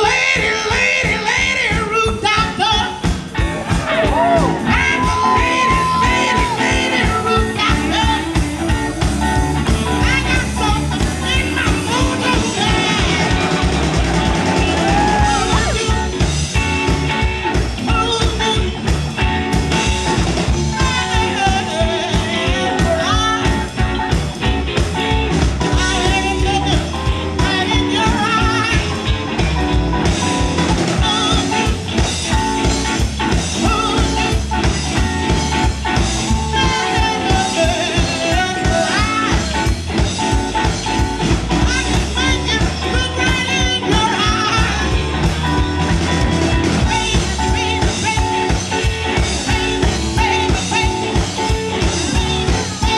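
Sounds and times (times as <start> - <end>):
electric blues band playing: 0.0 - 52.9.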